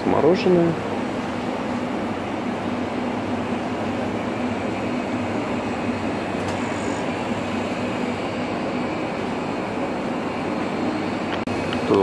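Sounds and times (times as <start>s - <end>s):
refrigeration fans humming: 0.0s - 12.0s.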